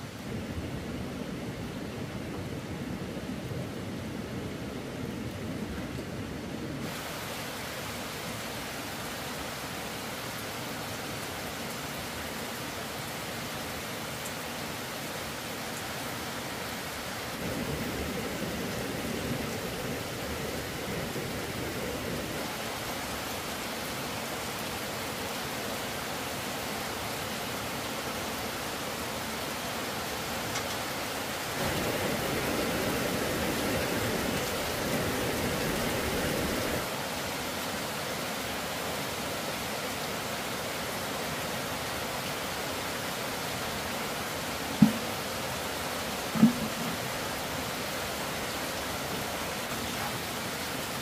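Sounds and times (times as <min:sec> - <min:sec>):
heavy rain hiss: 0:00.0 - 0:51.0.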